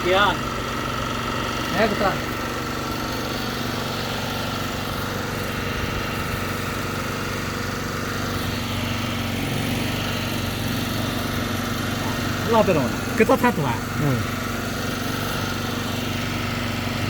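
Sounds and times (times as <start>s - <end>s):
small generator engine running: 0.0s - 17.0s.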